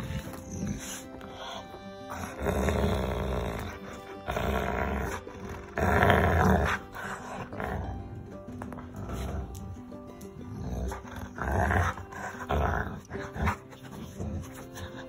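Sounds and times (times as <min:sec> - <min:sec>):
background music: 0:00.0 - 0:15.0
dog growling: 0:00.0 - 0:15.0.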